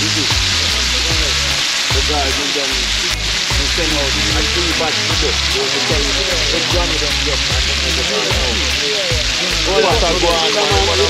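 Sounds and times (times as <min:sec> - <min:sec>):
meat sizzling in hot oil: 0:00.0 - 0:11.0
music playing: 0:00.0 - 0:11.0.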